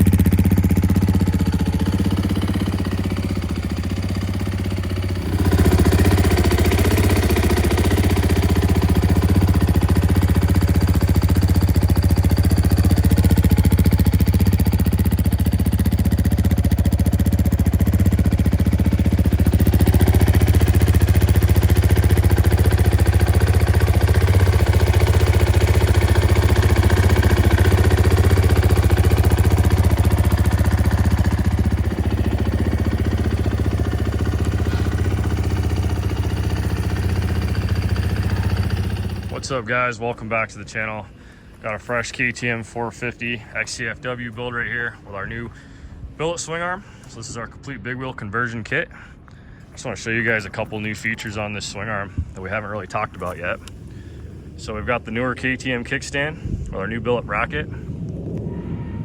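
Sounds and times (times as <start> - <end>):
dirt bike engine idling: 0.0 - 59.0.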